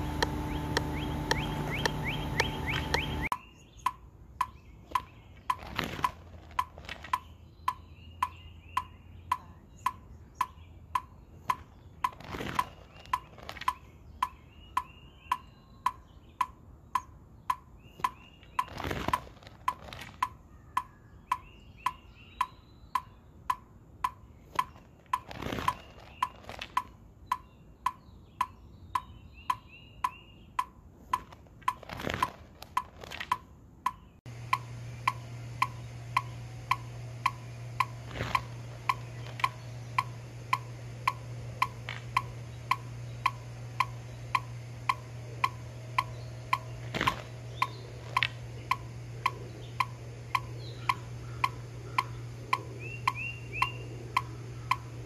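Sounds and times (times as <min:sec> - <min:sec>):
metronome clicking: 0:00.0 - 0:55.0.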